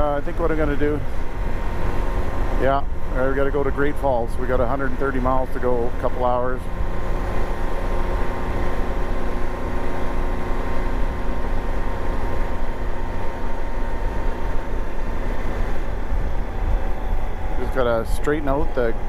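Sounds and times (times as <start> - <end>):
motorcycle engine running: 0.0 - 19.0
road noise: 0.0 - 19.0.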